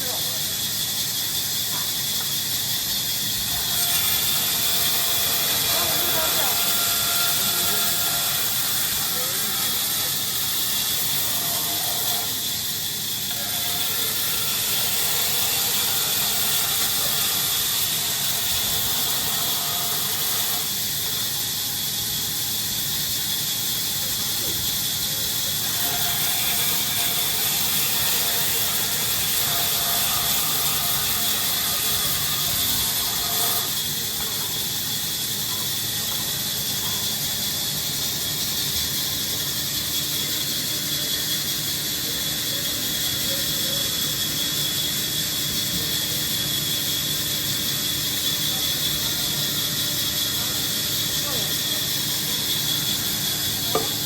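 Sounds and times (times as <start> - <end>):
woodworking machinery hissing: 0.0 - 54.0.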